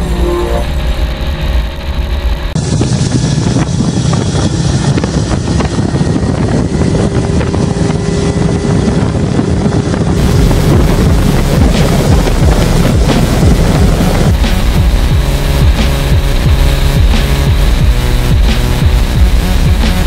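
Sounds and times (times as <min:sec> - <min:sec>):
powerboat engine drone: 0:00.0 - 0:20.0
wind buffeting microphone: 0:02.5 - 0:20.0.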